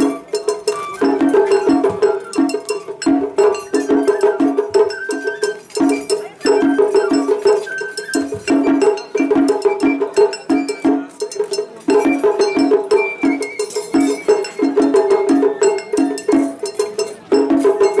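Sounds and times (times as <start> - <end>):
high bamboo flute notes: 0.0 - 11.3, 11.9 - 18.0
rapid taiko drum strokes: 0.0 - 18.0.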